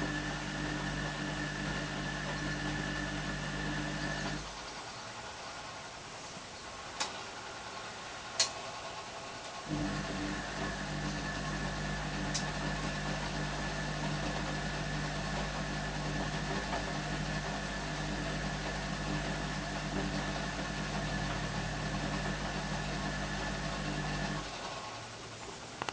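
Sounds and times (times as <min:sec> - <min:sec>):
washing machine drum motor humming: 0:00.0 - 0:06.0, 0:07.6 - 0:25.9.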